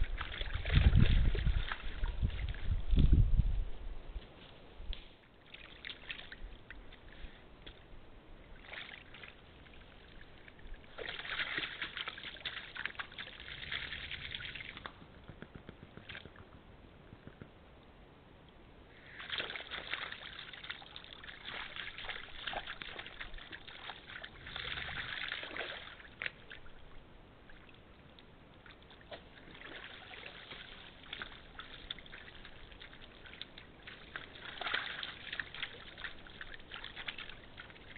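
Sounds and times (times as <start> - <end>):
water sloshing and splashing: 0.0 - 3.1, 5.3 - 17.4, 19.0 - 37.9.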